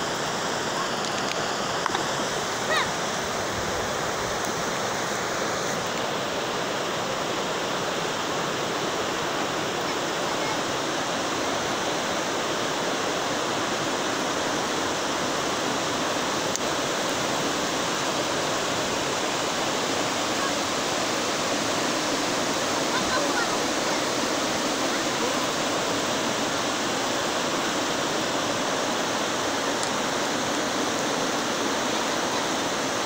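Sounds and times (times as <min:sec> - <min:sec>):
river rapids rushing over rocks: 0:00.0 - 0:33.0.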